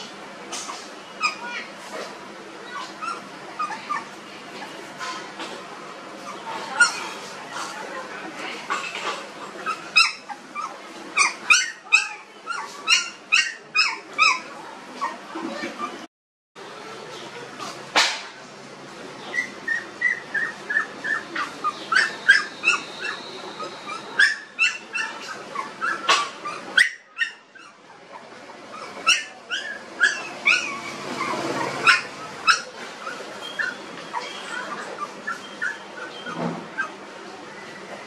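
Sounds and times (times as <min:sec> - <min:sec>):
puppies whimpering and yelping: 0:00.6 - 0:05.3, 0:06.2 - 0:16.1, 0:19.2 - 0:37.1.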